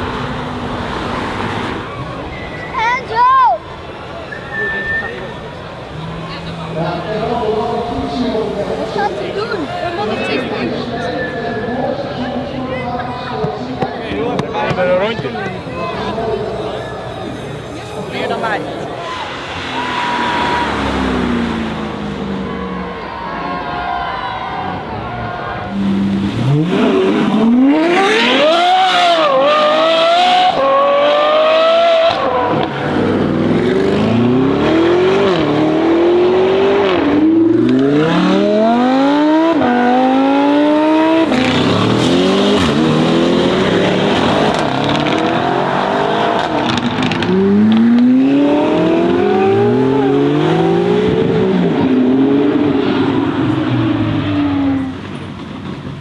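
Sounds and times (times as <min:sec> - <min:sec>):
sports car accelerating hard: 0:00.0 - 0:02.5, 0:03.9 - 0:56.0.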